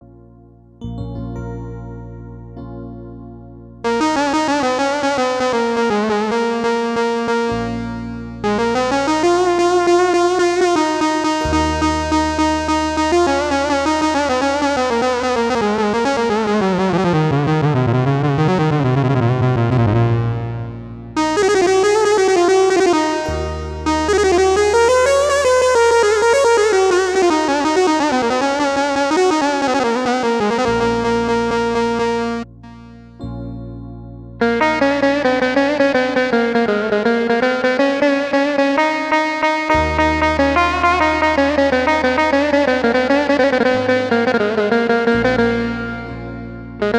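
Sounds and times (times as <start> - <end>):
held low bass notes: 0.0 - 46.9
keyboard ornamented melody: 0.0 - 46.9.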